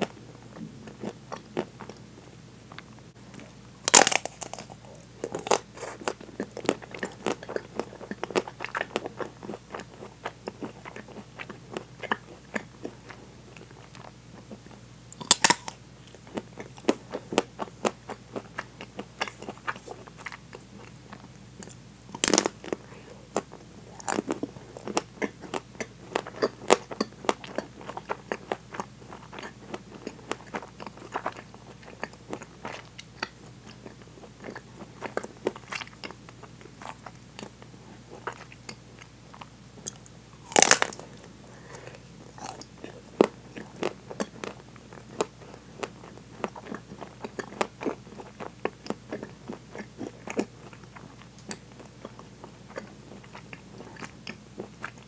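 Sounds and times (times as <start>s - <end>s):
crunchy biting and chewing: 3.3s - 55.0s.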